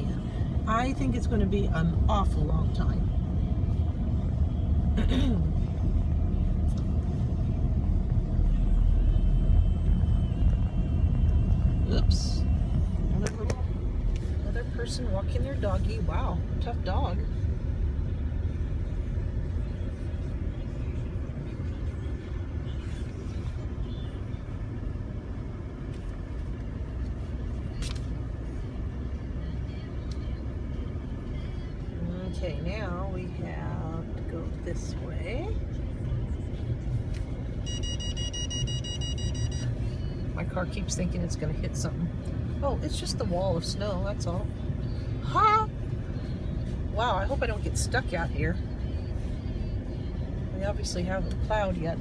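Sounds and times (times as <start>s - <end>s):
car rumbling over snowy road: 0.0s - 52.0s.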